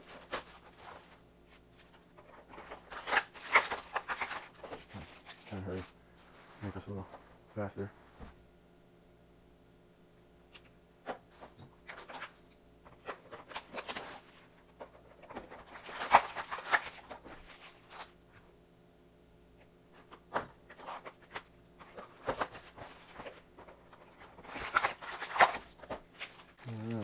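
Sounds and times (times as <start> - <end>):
foil packs rustling: 0.0 - 7.9, 11.3 - 18.2, 20.1 - 27.0.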